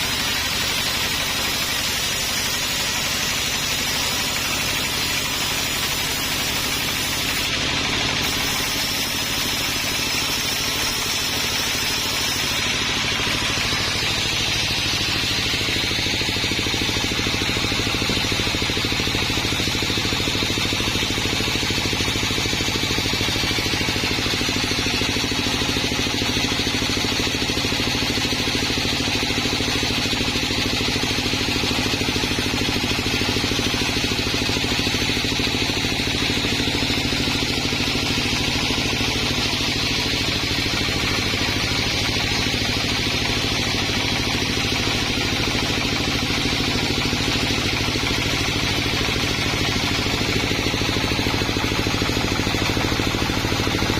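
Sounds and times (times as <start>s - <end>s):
clatter: 0.0s - 53.9s
sawmill motor humming: 0.0s - 53.9s.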